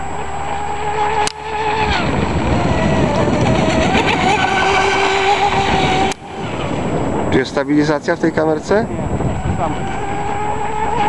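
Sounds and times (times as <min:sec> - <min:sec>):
rc boat motor whining: 0:00.0 - 0:11.0.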